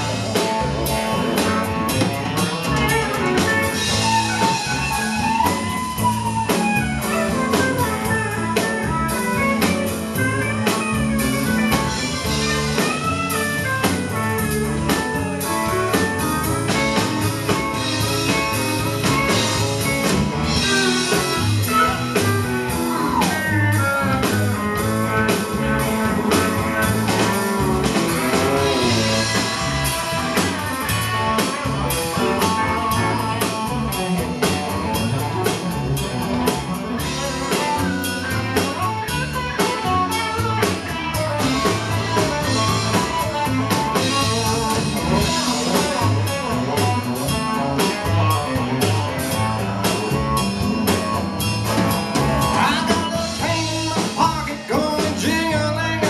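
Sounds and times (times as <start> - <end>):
drum kit beat: 0.0 - 56.0
electric guitar with bent notes: 0.0 - 56.0
live rock band playing: 0.0 - 56.0.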